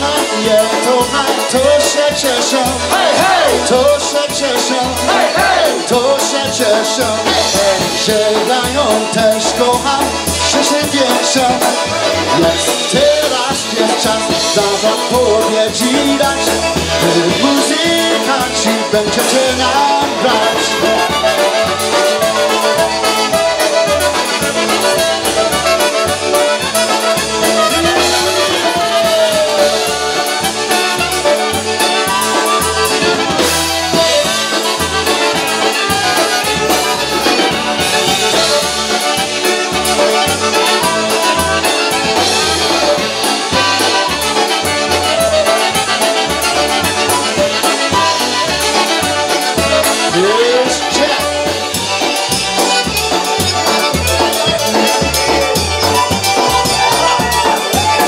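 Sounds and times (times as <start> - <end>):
polka band playing: 0.0 - 58.0.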